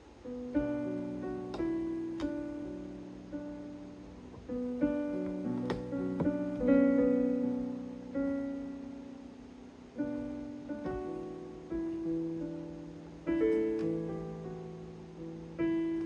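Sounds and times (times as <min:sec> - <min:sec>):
electronic keyboard played slowly: 0:00.0 - 0:16.0.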